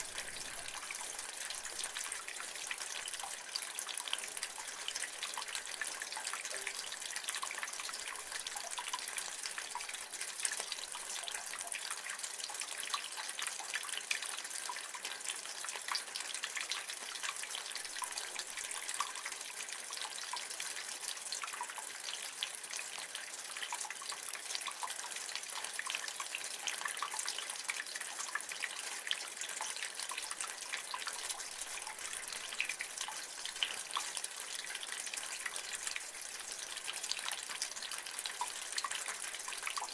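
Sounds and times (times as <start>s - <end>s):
rainwater dripping from gutter: 0.0s - 39.9s.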